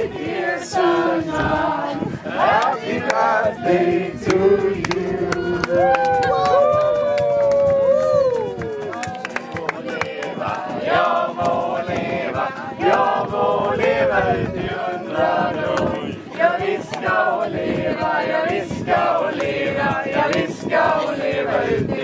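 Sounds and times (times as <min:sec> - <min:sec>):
group singing a cappella: 0:00.0 - 0:06.0, 0:09.5 - 0:22.0.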